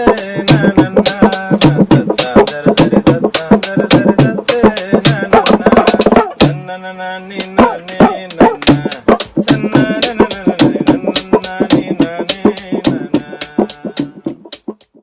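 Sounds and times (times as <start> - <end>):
sharp percussion strikes: 0.0 - 6.7, 7.4 - 15.0
man singing folk song: 0.0 - 14.8.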